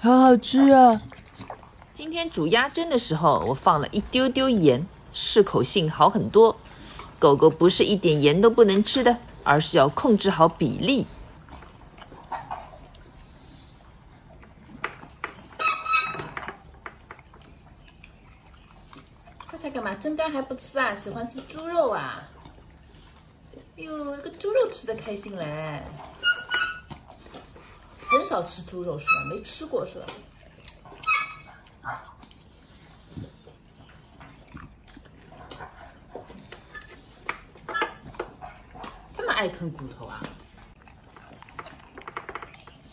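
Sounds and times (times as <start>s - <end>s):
dog chewing and licking: 0.6s - 42.9s
teeth clicking on metal bowl: 5.5s - 42.9s.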